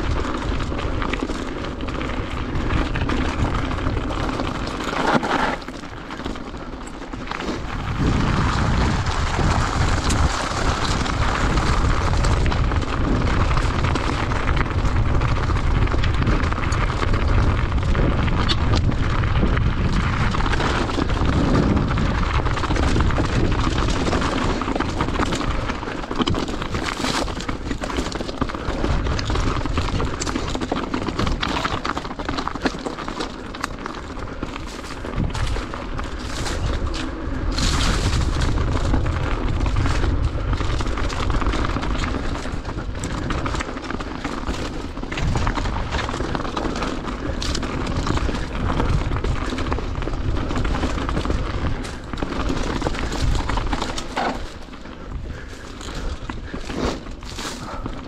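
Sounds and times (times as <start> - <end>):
bike clicks and knocks: 0.0 - 58.0
wind rumble on microphone: 0.0 - 58.0.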